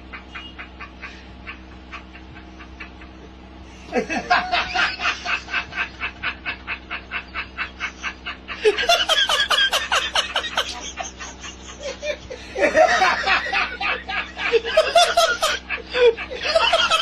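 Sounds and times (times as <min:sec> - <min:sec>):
human laughter: 0:00.0 - 0:17.0.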